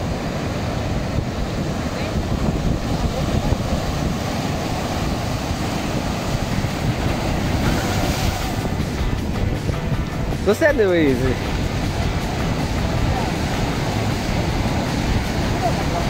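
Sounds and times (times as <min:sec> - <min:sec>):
ocean surf breaking on rocks: 0:00.0 - 0:16.0
wave crashing with spray: 0:00.0 - 0:16.0
wind buffeting microphone: 0:00.0 - 0:16.0.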